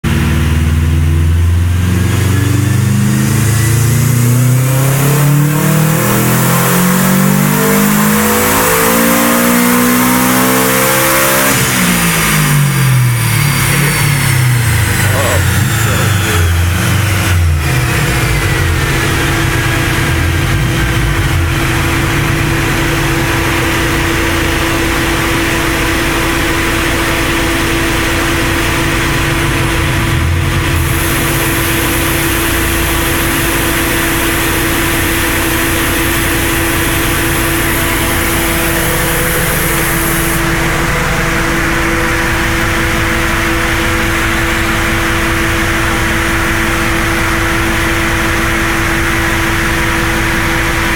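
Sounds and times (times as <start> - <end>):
car engine droning: 0.0 - 50.9.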